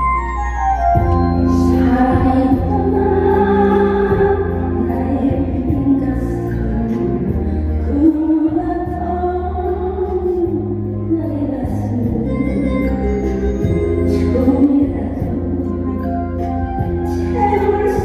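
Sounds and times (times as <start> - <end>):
backing track with low bass: 0.0 - 18.0
woman singing: 1.4 - 18.0.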